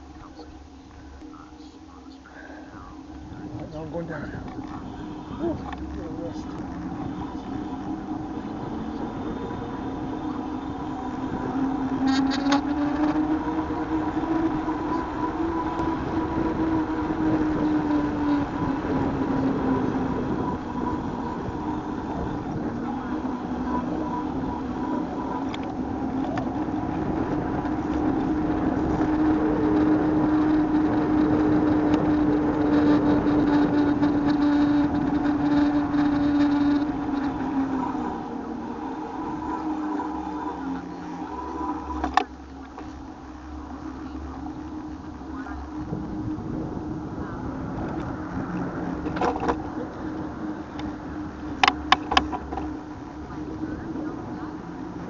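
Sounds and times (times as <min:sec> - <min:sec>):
constant rushing noise: 0:00.0 - 0:55.0
vehicle motor humming: 0:00.0 - 0:55.0.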